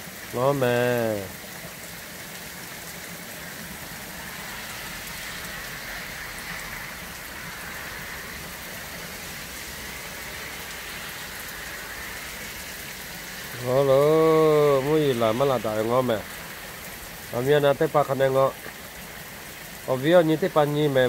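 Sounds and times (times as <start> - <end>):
heavy rain on grass and pavement: 0.0 - 21.0.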